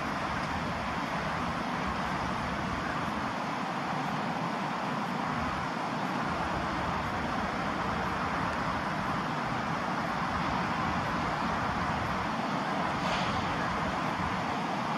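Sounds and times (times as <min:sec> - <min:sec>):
road traffic noise: 0:00.0 - 0:14.9.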